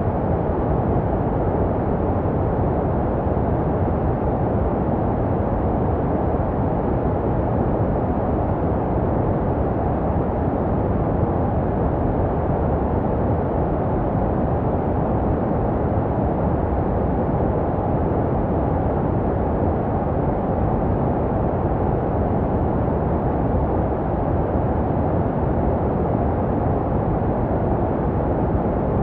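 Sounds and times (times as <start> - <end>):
muffled white noise rush: 0.0 - 29.0.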